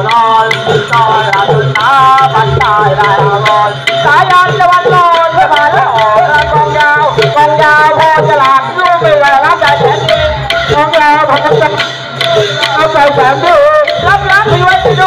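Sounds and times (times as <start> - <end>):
hand drums in dense rhythm: 0.0 - 15.0.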